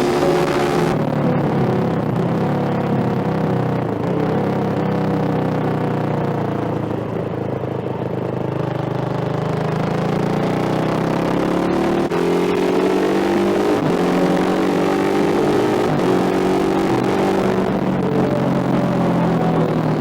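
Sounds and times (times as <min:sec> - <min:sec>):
loud motorcycle engine revving: 0:00.0 - 0:20.0.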